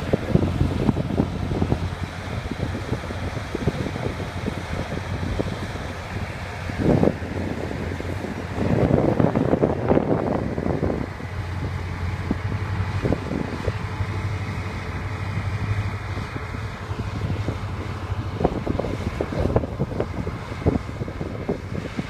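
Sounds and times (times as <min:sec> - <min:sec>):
combine harvester engine hum: 0:00.0 - 0:22.0
wind buffeting microphone: 0:00.0 - 0:22.0.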